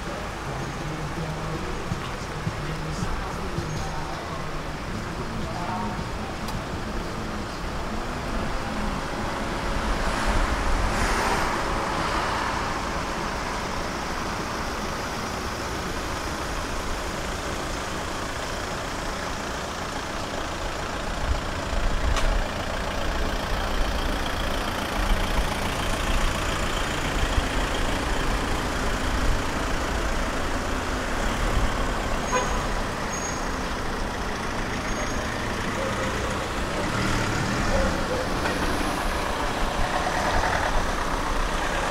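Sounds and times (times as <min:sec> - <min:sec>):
tram wheels rumbling: 0:00.0 - 0:41.9.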